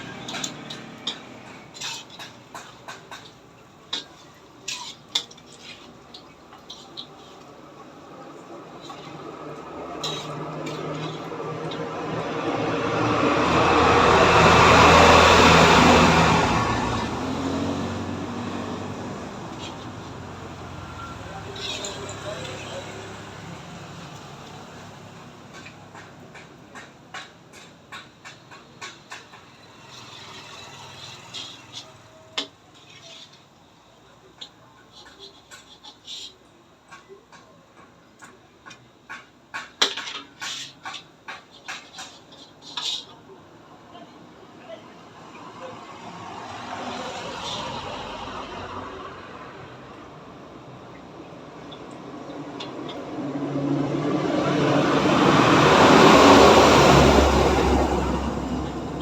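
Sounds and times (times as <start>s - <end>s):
motor vehicle passing: 0.0s - 33.4s, 45.1s - 59.0s.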